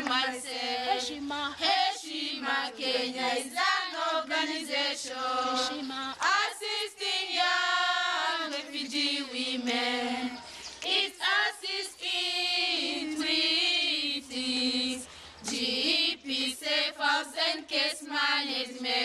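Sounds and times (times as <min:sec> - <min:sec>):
women singing unaccompanied: 0:00.0 - 0:19.0.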